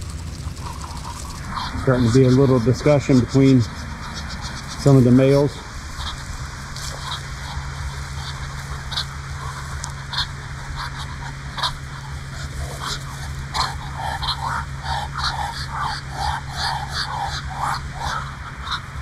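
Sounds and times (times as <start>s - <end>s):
ducks bill clicks: 0.0s - 19.0s
ducks short repeated calls: 0.0s - 19.0s.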